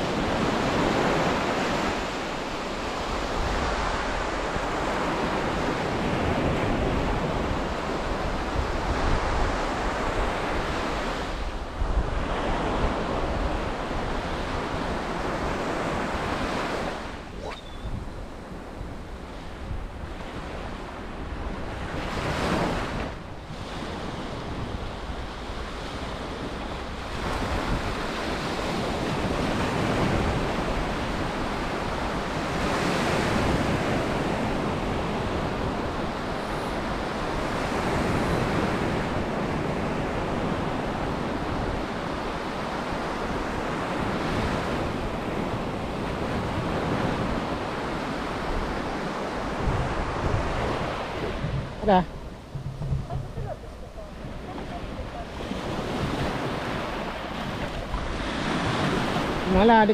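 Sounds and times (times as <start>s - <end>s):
waves breaking on beach: 0.0s - 59.9s
wind buffeting microphone: 0.0s - 59.9s.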